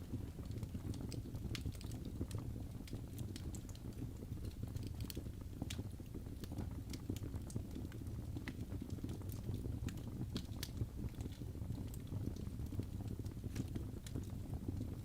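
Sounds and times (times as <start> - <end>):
crackles and pops from logs: 0.0 - 15.0
low rumble of flames: 0.0 - 15.0.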